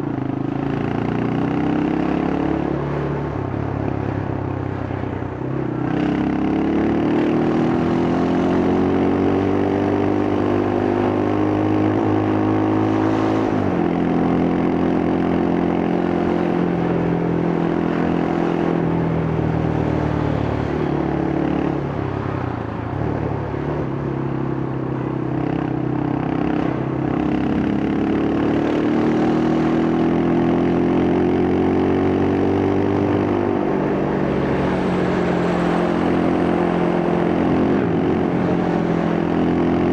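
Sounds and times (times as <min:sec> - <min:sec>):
motorcycle engine revving: 0:00.0 - 0:04.1, 0:05.5 - 0:39.9.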